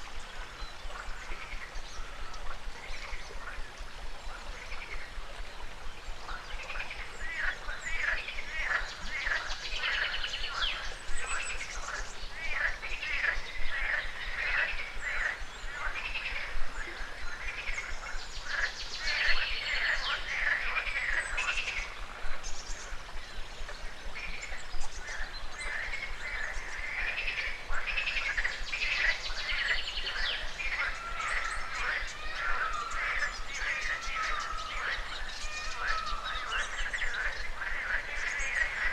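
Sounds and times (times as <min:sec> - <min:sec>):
frogs calling: 0:06.2 - 0:38.9
birds calling: 0:06.3 - 0:38.9.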